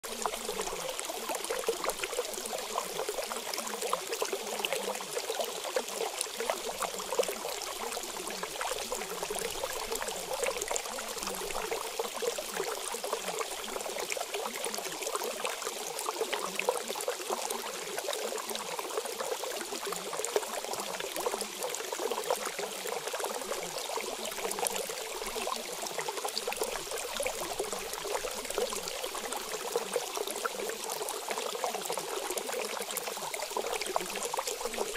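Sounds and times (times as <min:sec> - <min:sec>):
stream trickling: 0:00.0 - 0:34.9.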